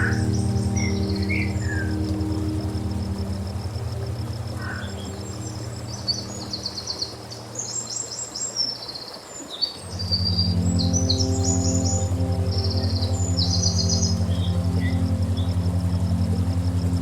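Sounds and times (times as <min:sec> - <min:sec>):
ambient synthesizer drone: 0:00.0 - 0:08.8, 0:09.8 - 0:17.0
small birds singing: 0:00.0 - 0:17.0.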